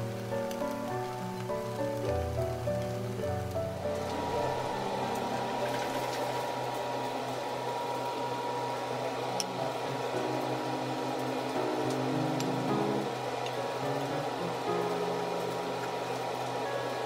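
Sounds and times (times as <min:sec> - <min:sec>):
appliance fan whirring: 0:00.0 - 0:17.0
soft piano music: 0:00.0 - 0:17.0.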